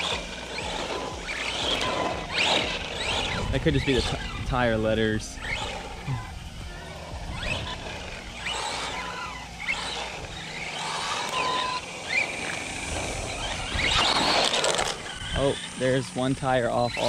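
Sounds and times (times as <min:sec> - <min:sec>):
tires rushing on asphalt: 0:00.0 - 0:16.0
electric motor whining: 0:00.0 - 0:17.0.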